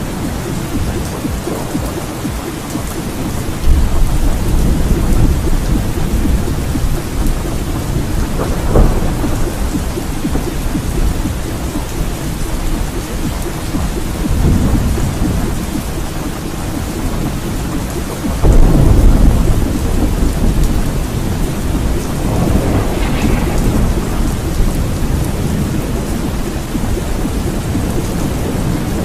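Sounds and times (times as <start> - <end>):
steady rain: 0.0 - 29.0
thunder rumbling: 0.0 - 29.0.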